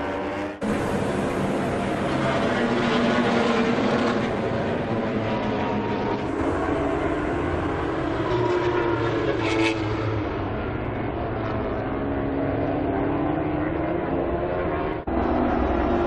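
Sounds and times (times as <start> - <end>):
racing motorcycle engines revving: 0.0 - 16.0.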